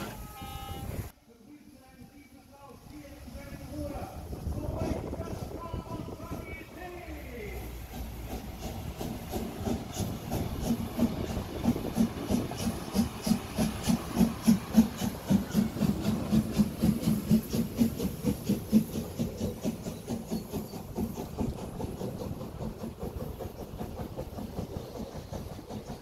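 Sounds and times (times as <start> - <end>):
steam locomotive chuffing: 1.8 - 26.0.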